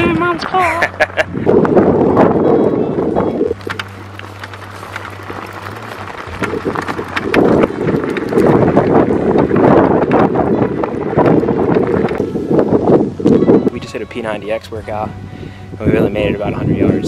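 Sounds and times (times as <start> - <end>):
tyres crunching on gravel: 0.0 - 17.0
wind buffeting microphone: 0.0 - 17.0.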